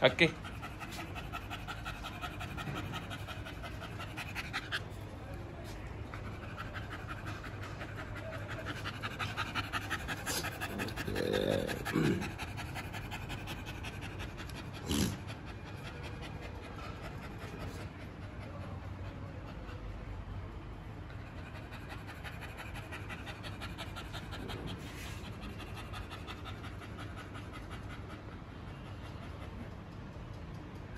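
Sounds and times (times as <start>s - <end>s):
dog panting: 0.0s - 30.9s.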